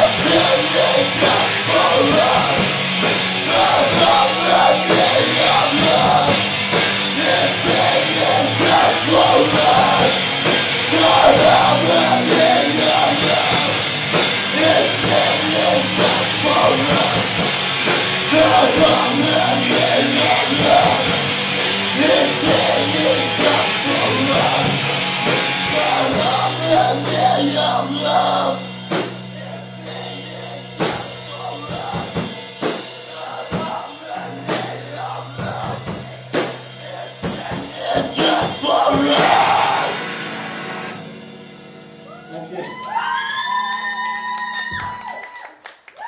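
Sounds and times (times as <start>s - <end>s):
person singing: 0.0s - 17.5s, 18.2s - 32.4s, 33.1s - 40.1s
drum-kit hits: 0.0s - 41.8s
distorted low notes: 0.0s - 42.6s
rock band playing loud: 0.0s - 42.7s.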